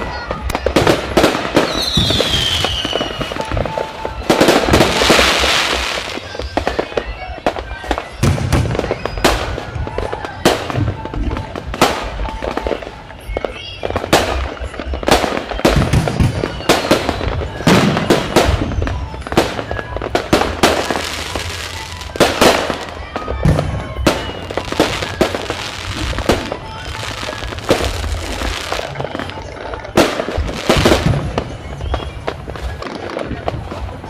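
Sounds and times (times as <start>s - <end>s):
firework crackle and rumble: 0.0s - 34.0s.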